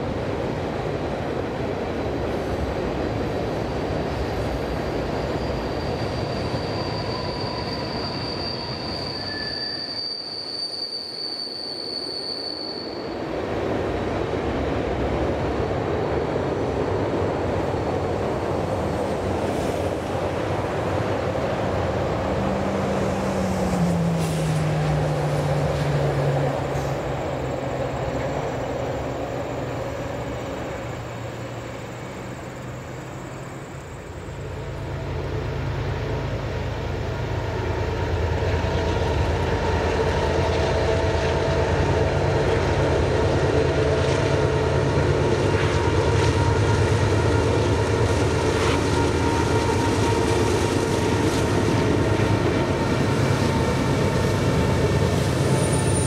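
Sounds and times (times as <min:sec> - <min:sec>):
diesel locomotive engines: 0:00.0 - 0:56.0
freight train rumbling over trestle: 0:00.0 - 0:56.0.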